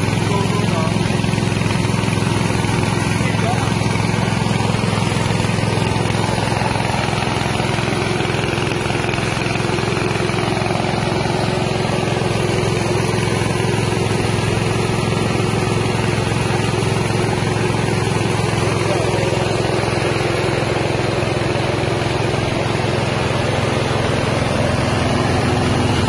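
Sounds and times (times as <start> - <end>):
rice milling machine running: 0.0 - 26.0.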